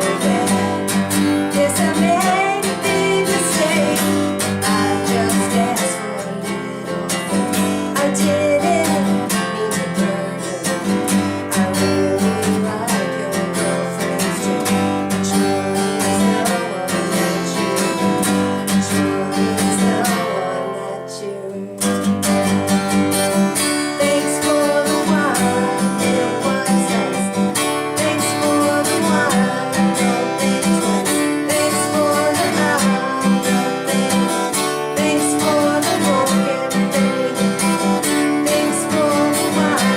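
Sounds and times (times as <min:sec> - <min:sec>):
acoustic guitar strummed and picked: 0:00.0 - 0:39.9.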